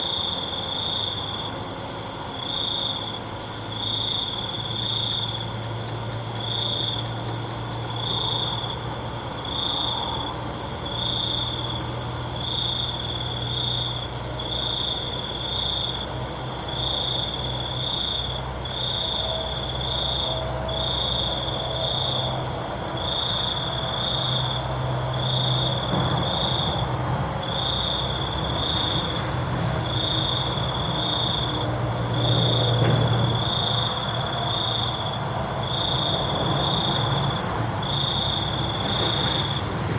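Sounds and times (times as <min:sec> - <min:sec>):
cricket chirping: 0:00.0 - 0:39.9
insects trilling: 0:00.0 - 0:39.9.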